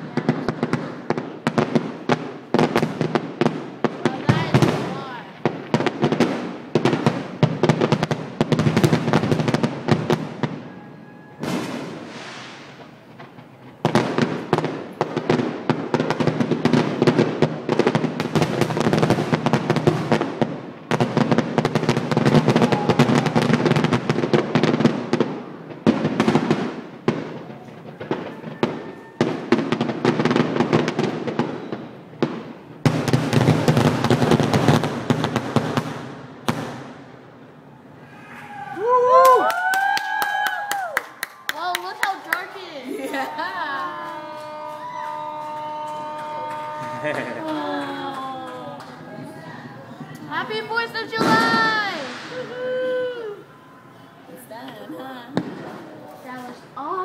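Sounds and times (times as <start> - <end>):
fireworks bangs and crackling: 0.0 - 38.2, 38.8 - 57.0.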